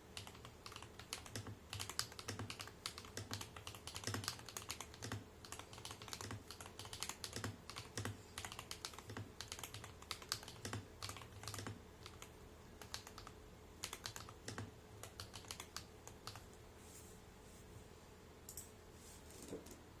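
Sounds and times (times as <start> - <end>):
typing on mechanical keyboard: 0.2 - 16.4.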